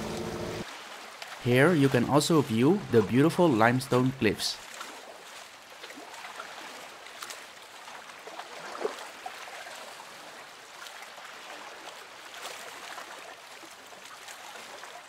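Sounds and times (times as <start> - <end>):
sea water lapping: 0.0 - 15.0.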